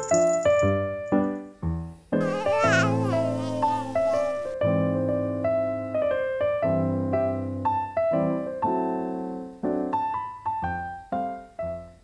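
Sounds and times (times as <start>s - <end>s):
gentle keyboard tune: 0.0s - 12.0s.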